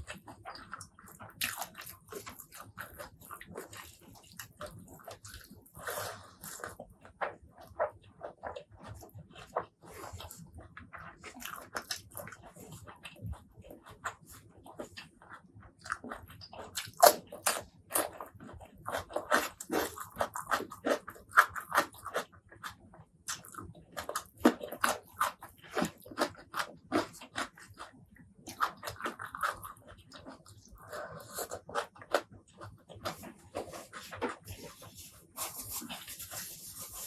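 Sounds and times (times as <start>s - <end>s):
chewing with crunches: 0.0s - 37.0s.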